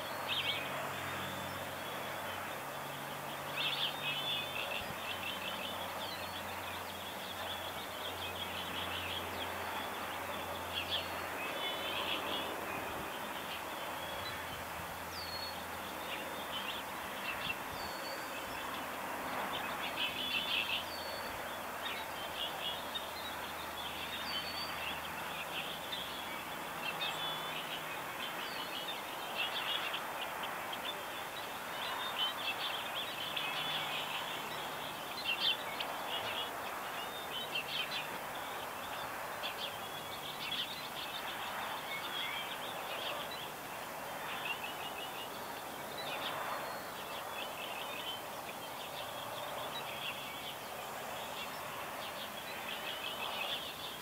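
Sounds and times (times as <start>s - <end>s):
outdoor background hiss: 0.0s - 54.0s
small birds chirping: 0.0s - 54.0s.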